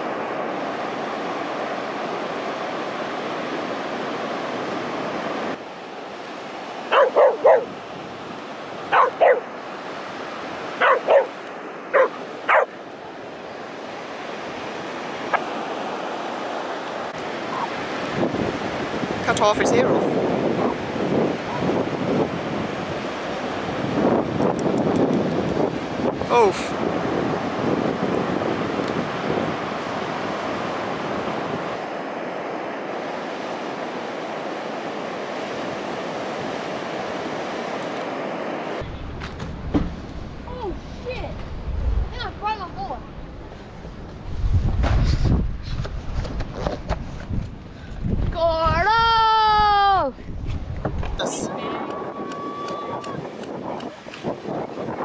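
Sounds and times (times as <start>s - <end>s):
ocean surf breaking: 0.0s - 50.2s, 51.0s - 55.0s.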